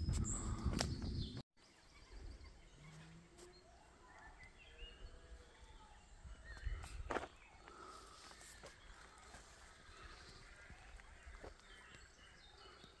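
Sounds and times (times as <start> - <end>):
birds chirping and singing: 0.0 - 13.0.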